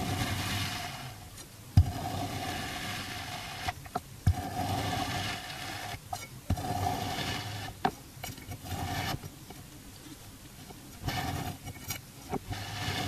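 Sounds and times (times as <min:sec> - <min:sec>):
metal blade scraping through sand: 0:00.0 - 0:07.8, 0:08.5 - 0:09.2, 0:11.0 - 0:13.0.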